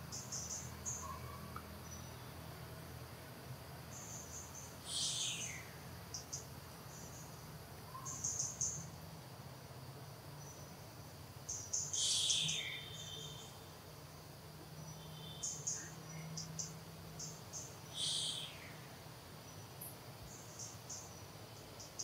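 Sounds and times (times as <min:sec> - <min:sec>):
insects and birds chirping: 0:00.0 - 0:22.0.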